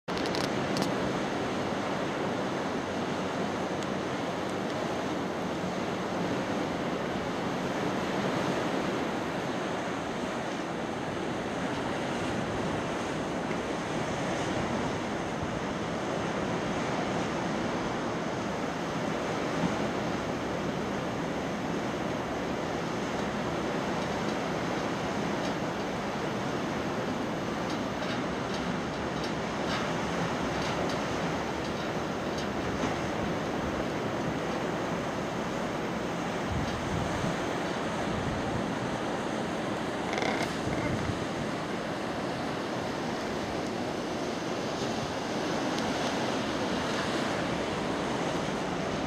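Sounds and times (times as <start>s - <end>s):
wind: 0.0s - 49.0s
ocean surf breaking: 0.1s - 49.0s.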